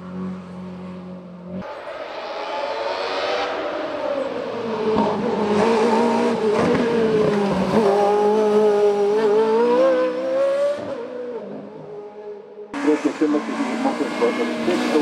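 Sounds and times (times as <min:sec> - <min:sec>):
race car engine revving past: 0:01.6 - 0:11.7, 0:12.8 - 0:15.0.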